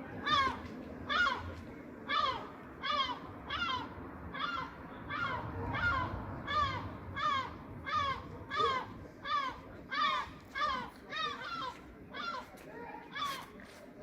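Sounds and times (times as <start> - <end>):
gull harsh calls: 0.2 - 13.4.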